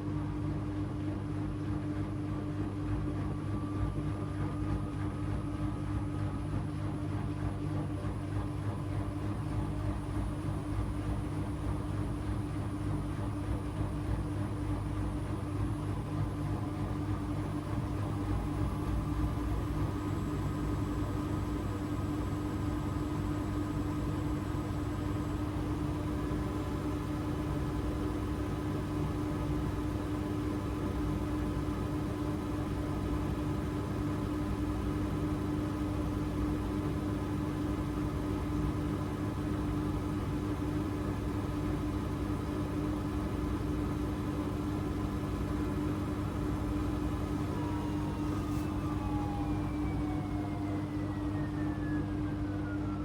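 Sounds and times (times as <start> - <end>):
washing machine spinning: 3.2 - 53.0.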